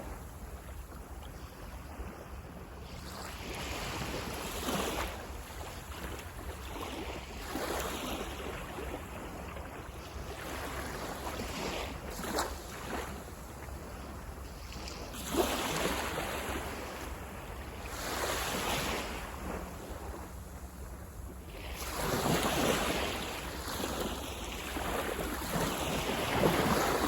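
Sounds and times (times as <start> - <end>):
waves breaking on beach: 0.0 - 20.8, 21.4 - 27.0
wind rumble on microphone: 0.0 - 27.0.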